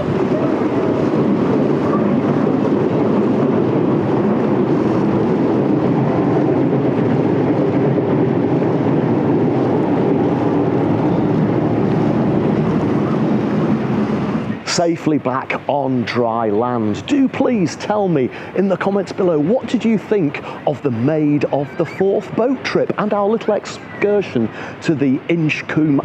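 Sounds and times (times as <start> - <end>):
boat engine droning: 0.0 - 26.0
wind rushing over microphone: 0.0 - 26.0.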